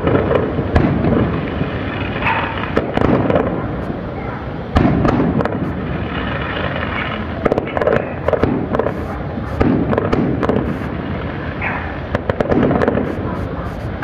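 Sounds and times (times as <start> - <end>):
booming firework rumble: 0.0 - 14.0
sharp firework bangs and crackles: 0.0 - 14.0.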